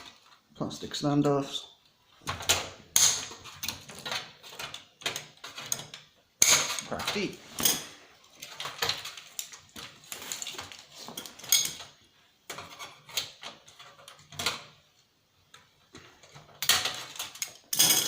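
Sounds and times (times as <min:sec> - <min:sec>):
plastic parts clicking and clattering: 0:01.8 - 0:18.0.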